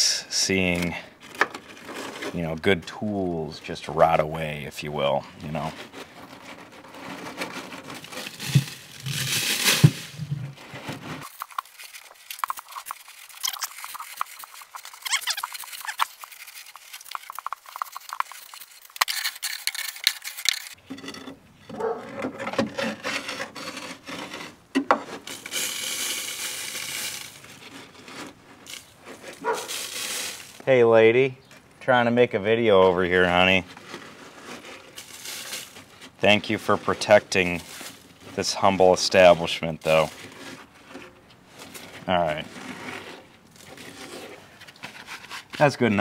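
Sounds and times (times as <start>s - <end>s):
crackling rust flakes: 0.0s - 21.9s, 22.7s - 46.0s
gloved hands scraping rust: 0.5s - 46.0s.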